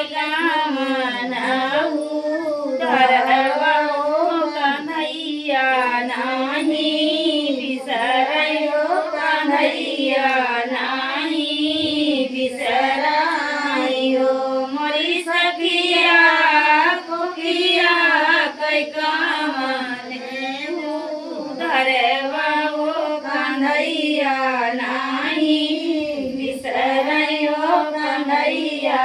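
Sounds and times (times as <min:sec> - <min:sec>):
women singing folk song: 0:00.0 - 0:29.0.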